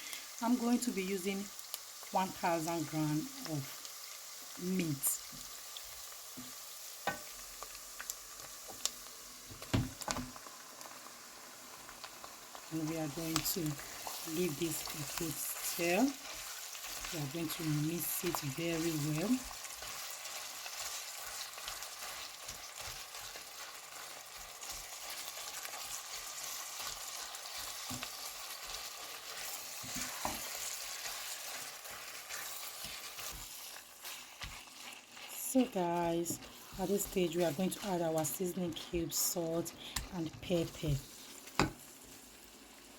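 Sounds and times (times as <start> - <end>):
meat and onions sizzling: 0.0 - 42.9.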